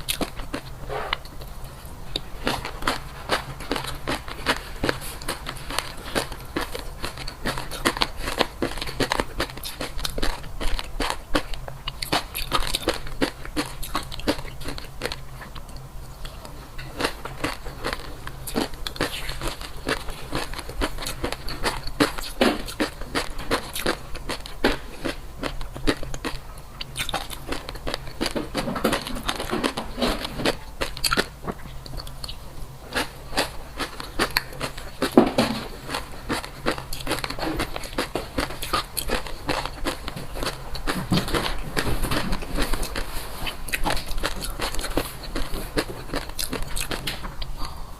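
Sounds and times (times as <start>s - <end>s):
person chewing crunchy food: 0.0s - 47.9s.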